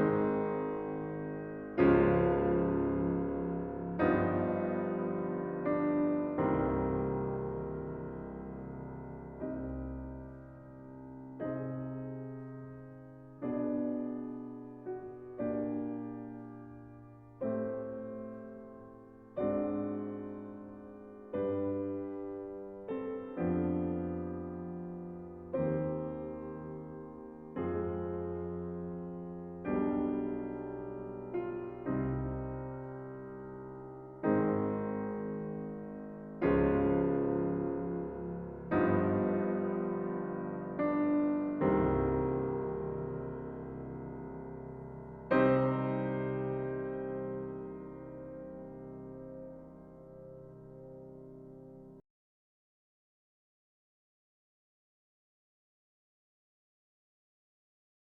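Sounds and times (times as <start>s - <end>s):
soft piano chords: 0.0s - 52.0s.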